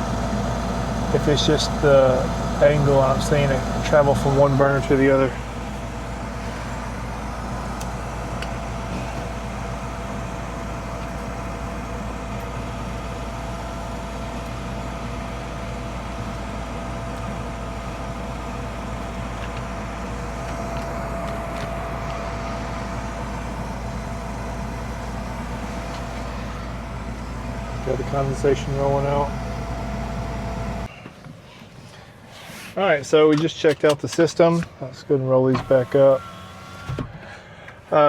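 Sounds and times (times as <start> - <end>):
gas furnace motor hum: 0.0 - 34.9.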